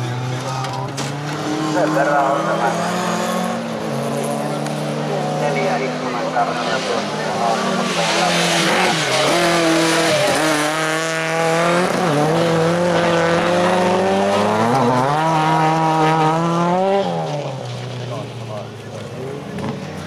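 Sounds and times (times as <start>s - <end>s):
car engines at high revs: 0.0s - 20.0s.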